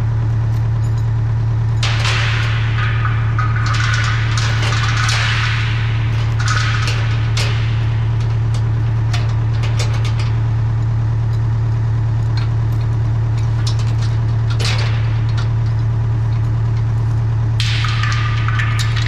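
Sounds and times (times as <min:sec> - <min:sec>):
diesel engine idling: 0:00.0 - 0:19.0
metallic clinks and clanks: 0:00.5 - 0:19.0.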